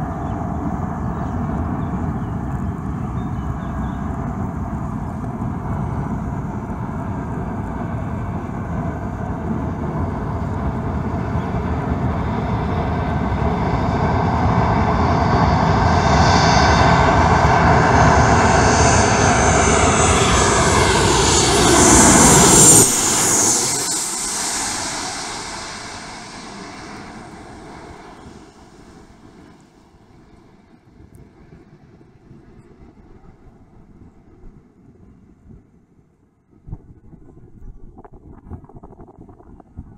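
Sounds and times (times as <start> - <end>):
jet airliner passing overhead: 0.0 - 35.4.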